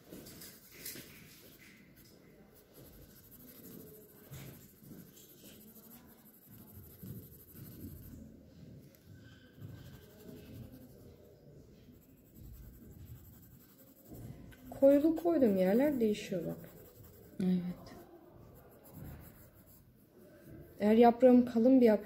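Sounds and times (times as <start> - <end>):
pencil scratching on paper: 0.3 - 8.4, 9.2 - 21.0.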